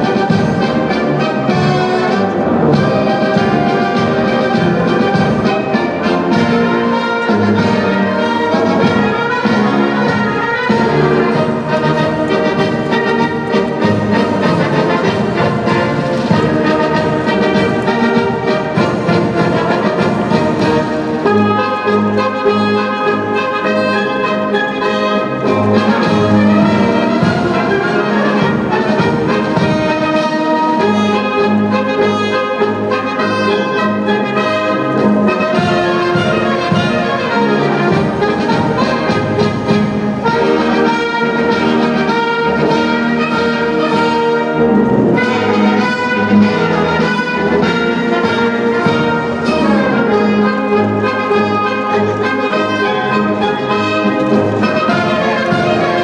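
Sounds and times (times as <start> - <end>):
orchestral music led by brass: 0.0 - 56.0.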